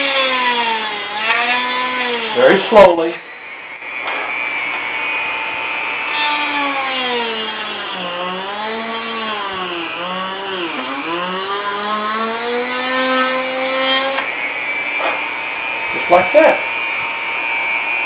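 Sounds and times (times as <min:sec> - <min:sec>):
rotary tool drilling into wood: 0:00.0 - 0:15.3.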